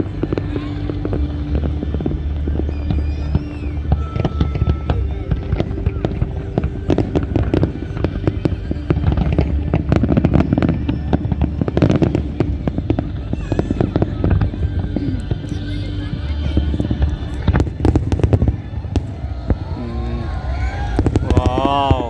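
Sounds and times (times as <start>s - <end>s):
fireworks bangs and crackles: 0.0s - 15.5s, 16.2s - 22.0s.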